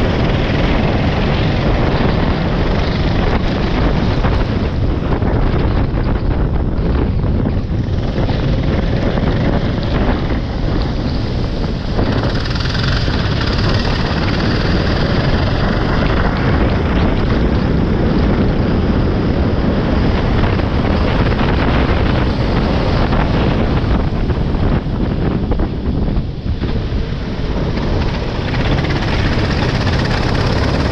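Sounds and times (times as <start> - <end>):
go-kart engine running: 0.0 - 30.9
wind buffeting microphone: 0.0 - 30.9.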